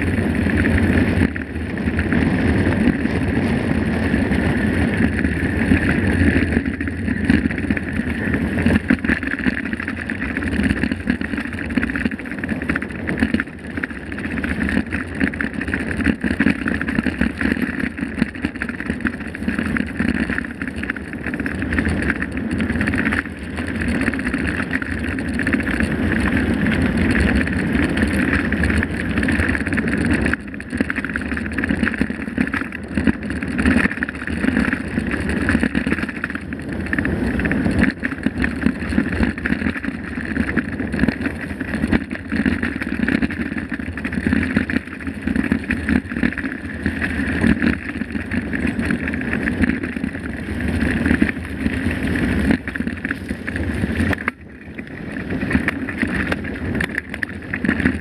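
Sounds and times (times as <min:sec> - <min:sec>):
bike rattling over bumps: 0:00.0 - 0:58.0
bike tyres rumbling on dirt: 0:00.0 - 0:58.0
wind on microphone: 0:00.0 - 0:58.0.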